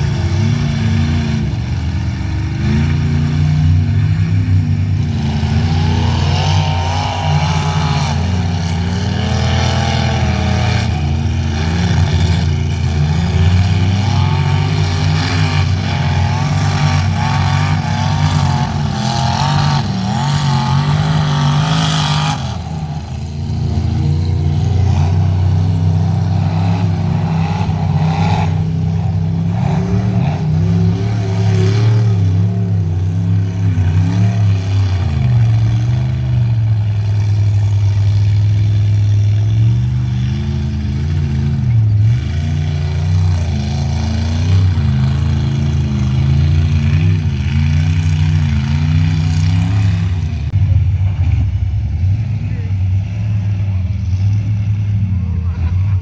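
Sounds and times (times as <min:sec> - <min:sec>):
truck engines revving hard: 0:00.0 - 0:56.0.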